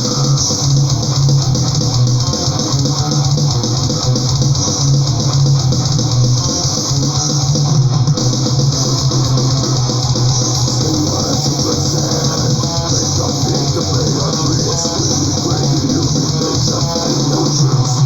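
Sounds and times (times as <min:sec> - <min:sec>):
bass guitar: 0:00.0 - 0:18.0
electric guitar riffing: 0:00.0 - 0:18.0.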